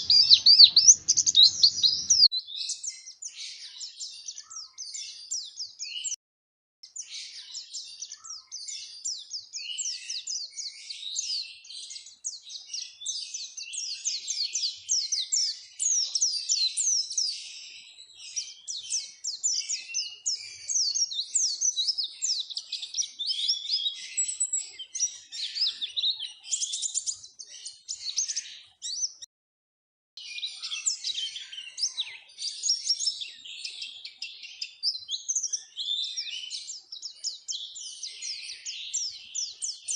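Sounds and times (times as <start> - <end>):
birds twittering song: 0.0 - 6.2, 6.8 - 29.3, 30.2 - 39.9.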